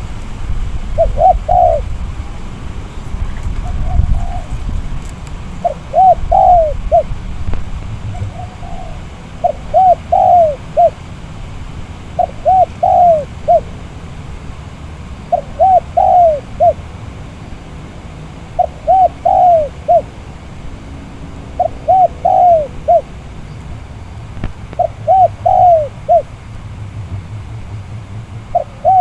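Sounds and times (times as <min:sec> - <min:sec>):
wind rumble on microphone: 0:00.0 - 0:29.0
dove cooing: 0:00.6 - 0:29.0.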